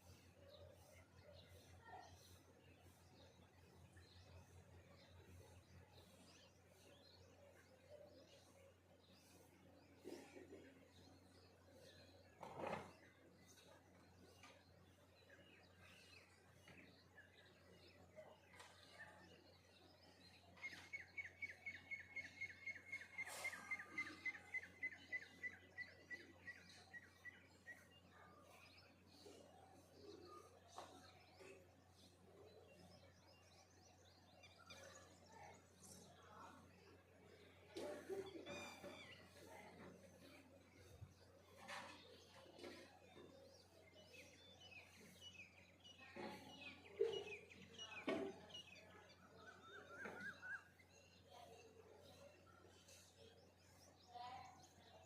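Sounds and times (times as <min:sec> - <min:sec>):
faint songbirds chirping: 0:00.0 - 0:55.0.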